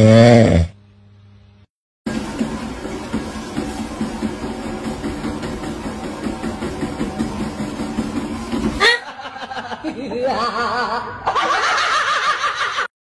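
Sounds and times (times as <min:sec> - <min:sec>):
treadmill motor and belt running: 0:02.1 - 0:12.8.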